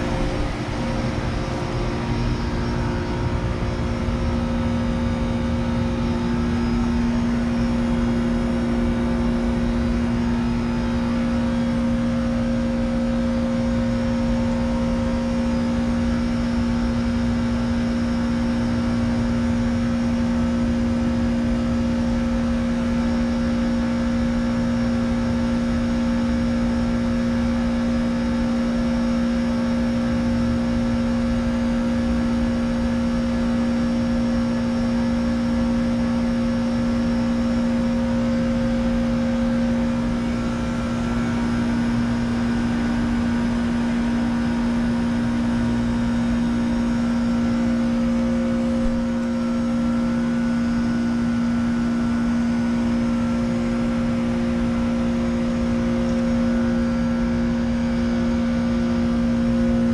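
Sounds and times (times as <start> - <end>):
heat pump compressor hum: 0.0 - 59.9.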